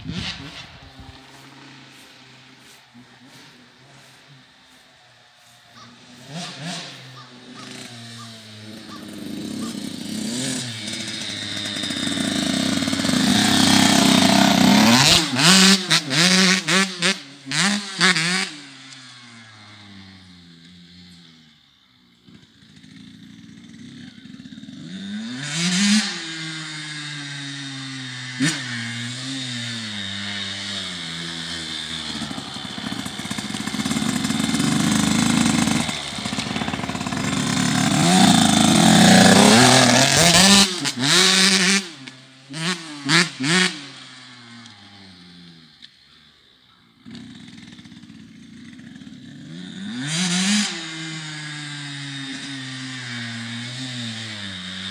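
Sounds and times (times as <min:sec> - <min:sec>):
dirt bike engine revving: 0:00.0 - 0:46.2, 0:47.0 - 0:54.9.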